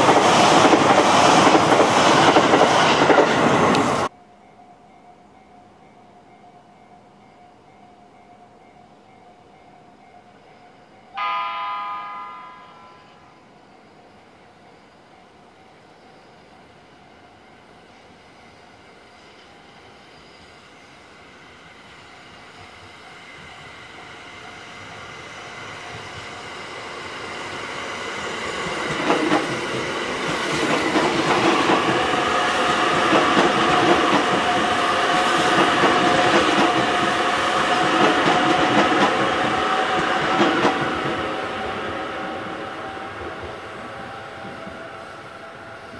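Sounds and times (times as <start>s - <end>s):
electric train rumble: 0.0s - 45.9s.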